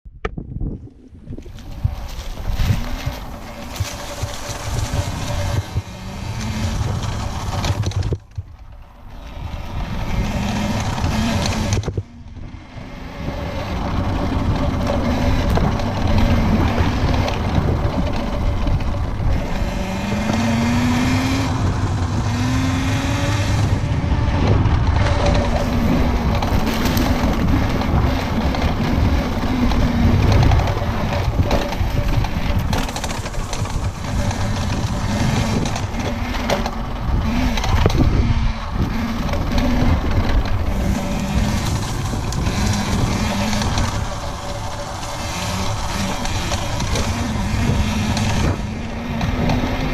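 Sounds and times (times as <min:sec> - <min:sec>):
pit bike engine revving: 0:01.4 - 0:49.9.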